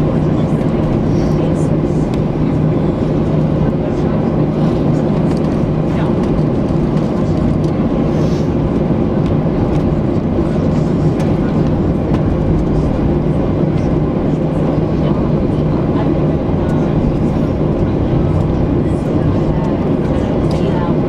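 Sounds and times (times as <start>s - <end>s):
aircraft cabin engine roar: 0.0s - 21.0s
constant low hum: 0.0s - 21.0s
low rumble: 0.0s - 21.0s.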